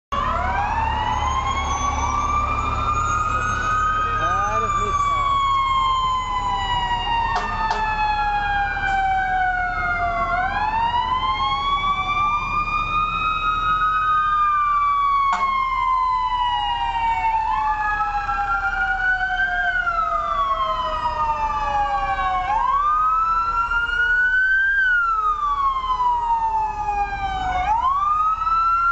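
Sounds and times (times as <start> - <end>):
wailing siren: 0.1 - 28.9
siren winding up and down: 0.2 - 28.9.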